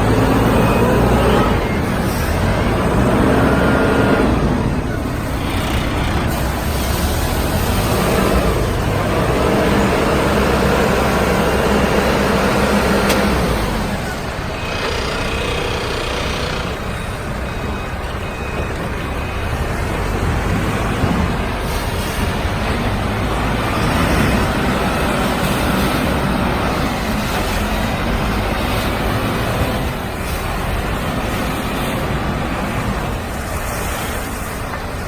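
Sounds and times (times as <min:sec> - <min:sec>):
diesel engine running steadily: 0:00.0 - 0:35.0.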